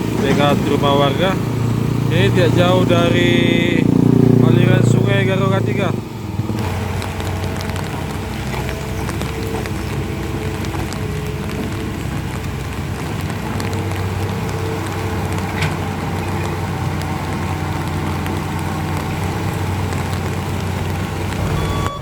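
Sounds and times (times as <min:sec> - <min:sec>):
heavy machinery diesel engine running: 0:00.0 - 0:22.0
rain falling: 0:00.0 - 0:22.0.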